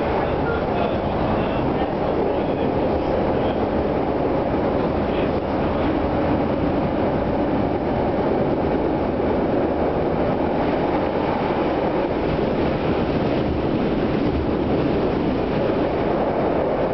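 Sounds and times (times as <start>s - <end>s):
train wheels on rail: 0.0s - 16.9s.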